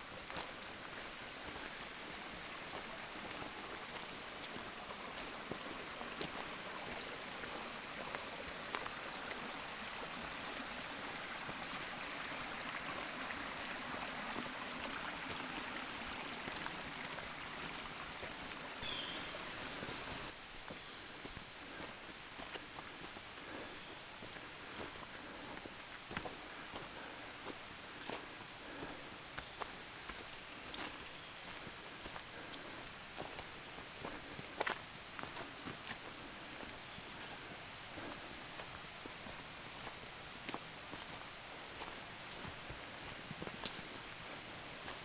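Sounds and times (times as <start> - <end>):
footsteps on leafy dirt trail: 0.0 - 45.0
stream running: 0.0 - 45.0.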